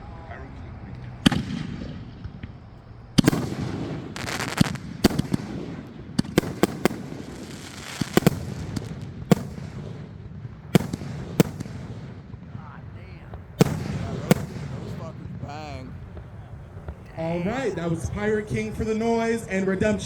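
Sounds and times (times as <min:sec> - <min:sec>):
firework shells bursting: 0:01.0 - 0:19.3
firework crackle: 0:01.2 - 0:19.4.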